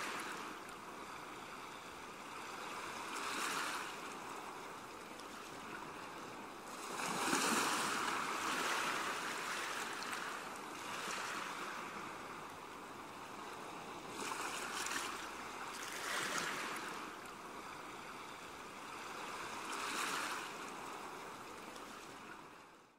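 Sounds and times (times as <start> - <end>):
sea waves washing onto shore: 0.0 - 22.6.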